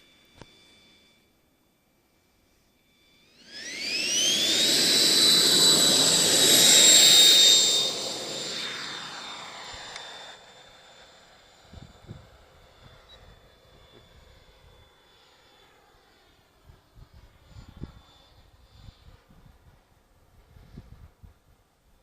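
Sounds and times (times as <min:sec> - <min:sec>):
electric fan high whine: 0:00.0 - 0:22.0.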